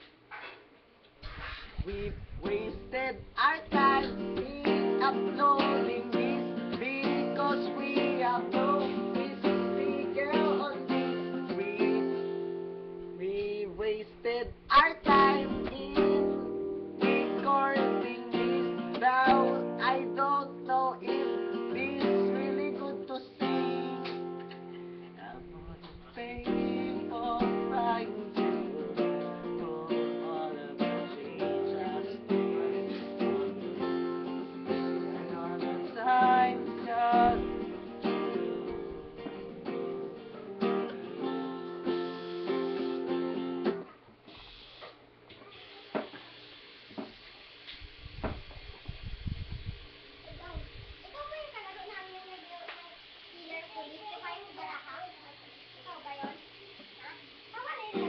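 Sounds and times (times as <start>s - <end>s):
acoustic guitar playing: 1.2s - 44.8s, 53.4s - 58.0s.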